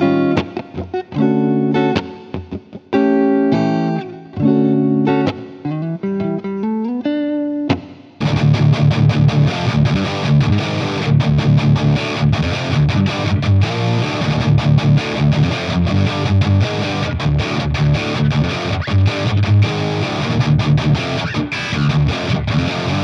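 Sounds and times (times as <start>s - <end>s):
electric guitar strummed chords: 0.0s - 23.0s.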